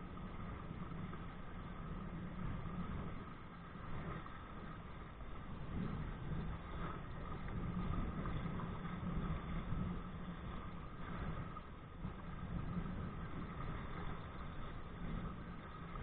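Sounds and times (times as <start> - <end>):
water rushing past kayak: 0.0 - 16.0
wind buffeting microphone: 0.0 - 16.0.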